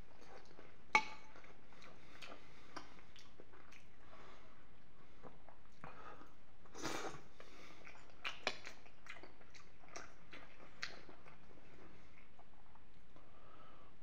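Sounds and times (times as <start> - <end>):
wet chewing and smacking: 0.0 - 4.1, 4.7 - 13.3.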